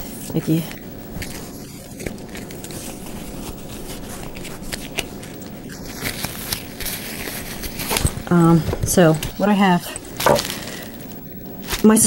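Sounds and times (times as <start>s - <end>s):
rubber gloves rustling and snapping: 0.5s - 10.8s.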